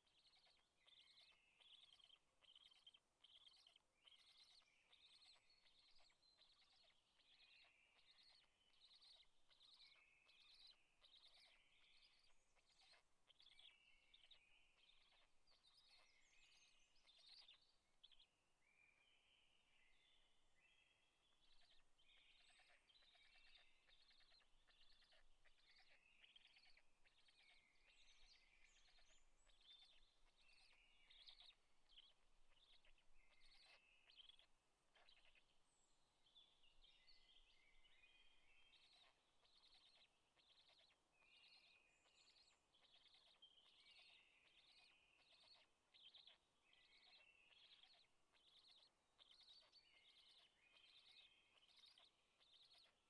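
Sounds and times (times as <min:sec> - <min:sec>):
high bird chirps: 0:00.1 - 0:18.3, 0:21.4 - 0:35.4, 0:36.3 - 0:53.0.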